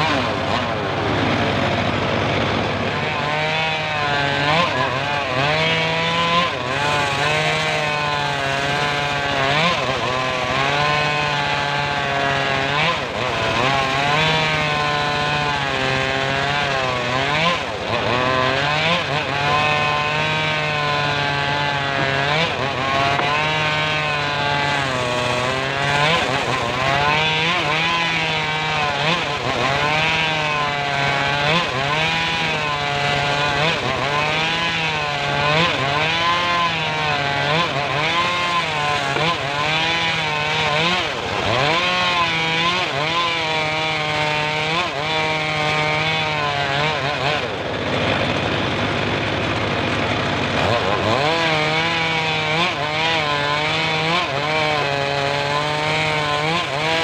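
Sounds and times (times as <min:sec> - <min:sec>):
circular sawmill cutting log: 0:00.0 - 0:57.0
engine running loud: 0:00.0 - 0:57.0.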